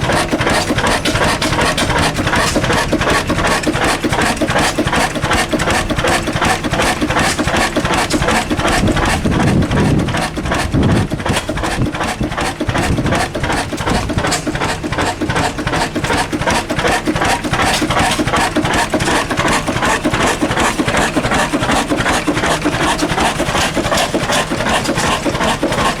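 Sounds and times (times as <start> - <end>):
diesel engine clattering: 0.0 - 26.0.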